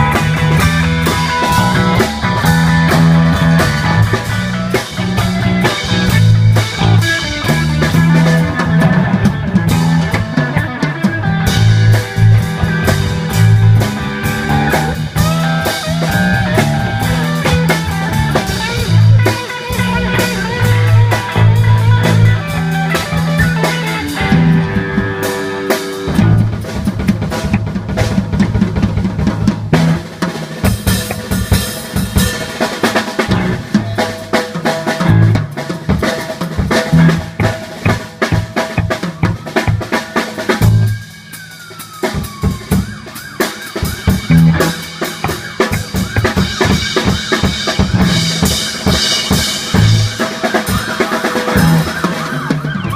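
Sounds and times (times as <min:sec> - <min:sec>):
bass line: 0:00.0 - 0:52.9
drum kit steady beat: 0:00.0 - 0:52.9
electric guitar: 0:00.0 - 0:52.9.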